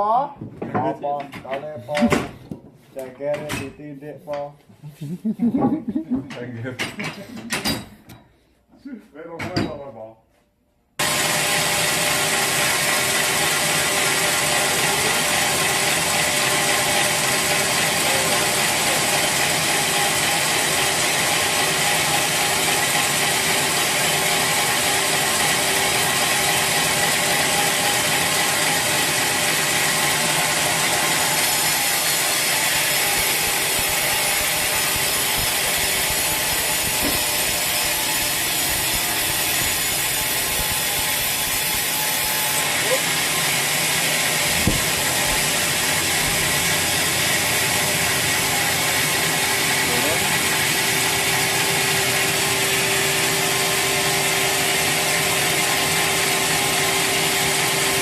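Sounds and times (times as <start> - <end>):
sawmill machinery whining: 11.0 - 58.0.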